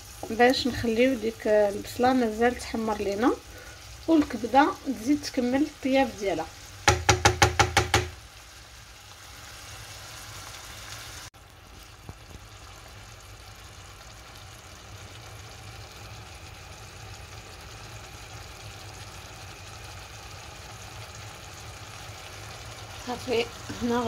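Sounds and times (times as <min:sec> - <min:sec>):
sauce bubbling and sizzling in pan: 0:00.0 - 0:24.0.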